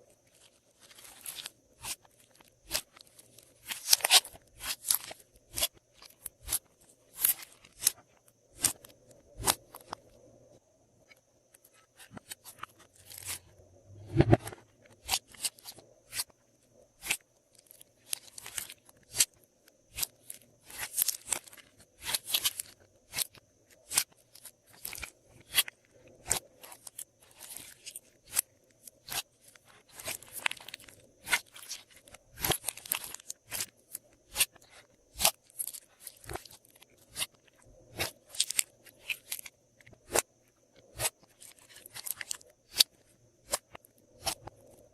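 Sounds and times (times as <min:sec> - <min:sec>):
slime squelch: 0:00.2 - 0:10.1, 0:17.0 - 0:44.7.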